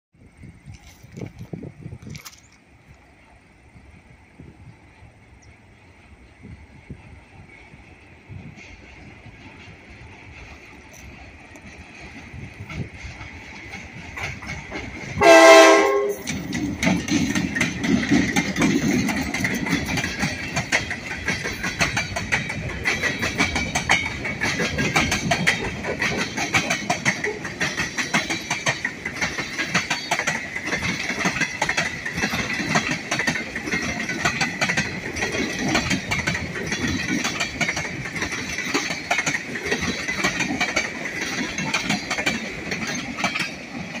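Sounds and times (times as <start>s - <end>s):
diesel locomotive engine: 0.2s - 44.0s
train wheels rumbling and clattering: 0.2s - 44.0s.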